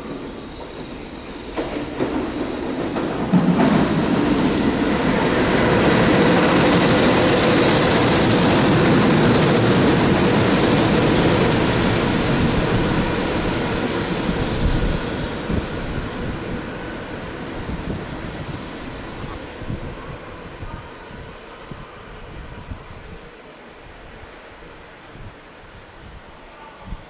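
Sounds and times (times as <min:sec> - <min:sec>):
freight train rumbling on rails: 0:00.0 - 0:27.0.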